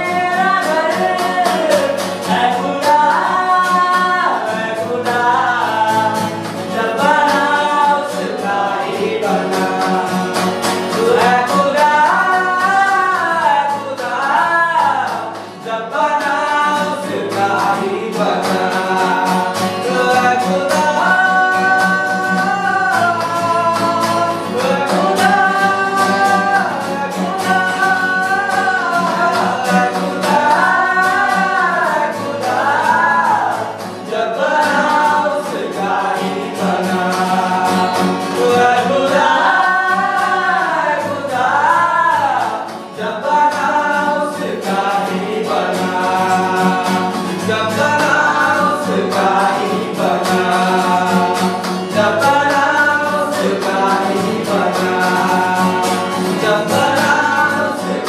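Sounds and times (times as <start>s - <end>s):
acoustic guitar strumming: 0.0s - 58.0s
two men singing: 0.0s - 58.0s.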